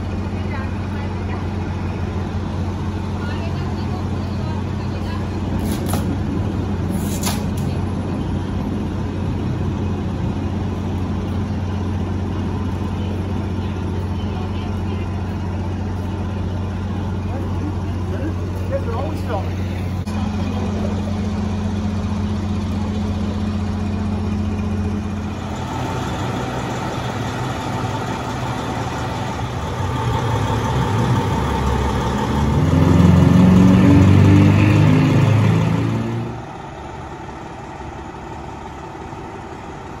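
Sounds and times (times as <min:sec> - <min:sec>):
diesel engine idling and revving: 0:00.0 - 0:40.0.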